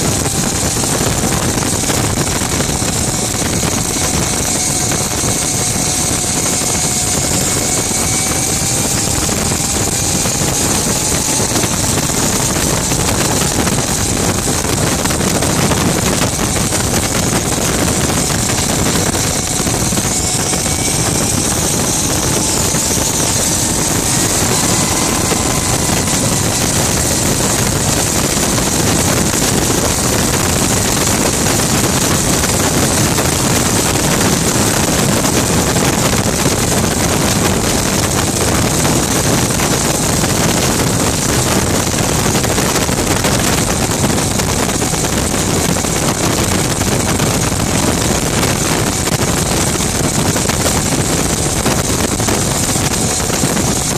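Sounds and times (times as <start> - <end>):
gas turbine engine whine: 0.0 - 53.9
loud rushing noise: 0.0 - 53.9.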